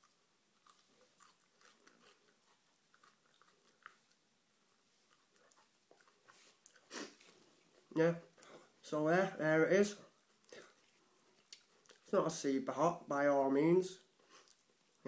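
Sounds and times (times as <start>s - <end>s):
chewing with soft crunches: 0.0s - 8.8s, 10.0s - 12.2s, 14.0s - 15.0s.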